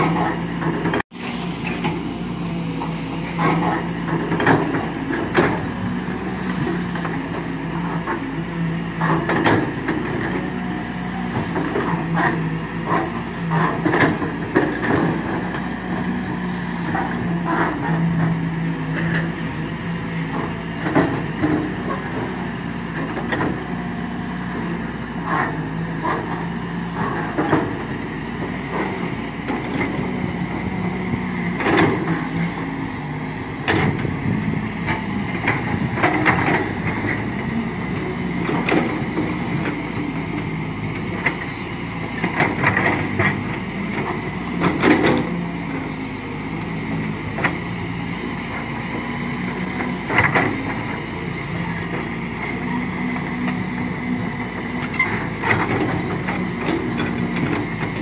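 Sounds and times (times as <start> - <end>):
diesel engines running: 0.0 - 58.0
excavator clanks and knocks: 0.0 - 58.0.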